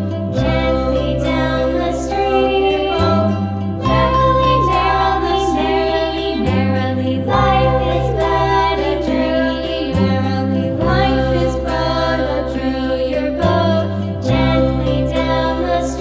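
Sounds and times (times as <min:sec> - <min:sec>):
nursery rhyme style music: 0:00.0 - 0:16.0
person singing: 0:00.0 - 0:16.0.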